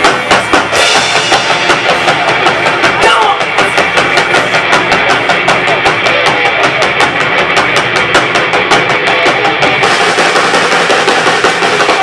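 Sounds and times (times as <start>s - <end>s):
drums fast even beat: 0.0s - 12.0s
electric guitar: 0.0s - 12.0s.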